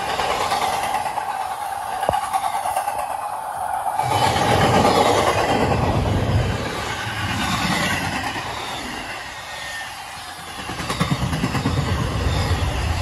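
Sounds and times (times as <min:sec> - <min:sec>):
freight train wheels clattering: 0:00.0 - 0:13.0.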